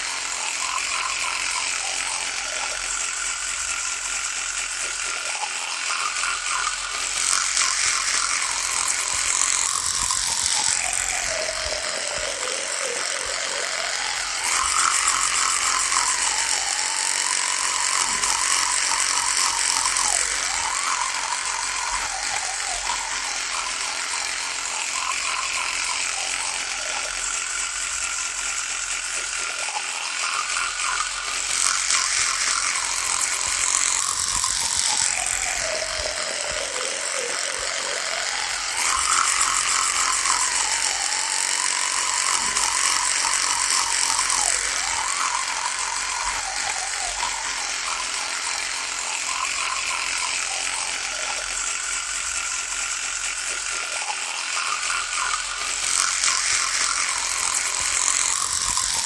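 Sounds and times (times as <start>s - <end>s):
electric toothbrush buzzing: 0.0s - 59.0s.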